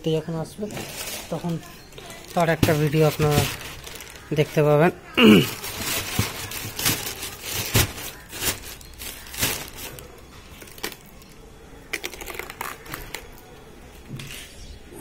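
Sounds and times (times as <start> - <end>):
plastic bag crinkling: 0.5 - 13.4.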